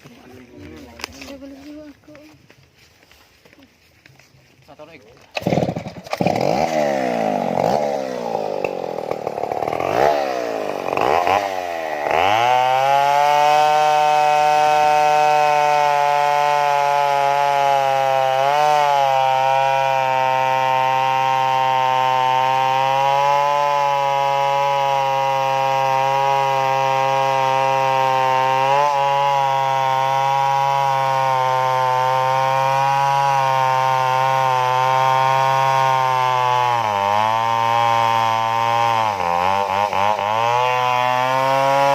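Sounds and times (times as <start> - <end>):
chainsaw revving and sawing: 0.0 - 41.9.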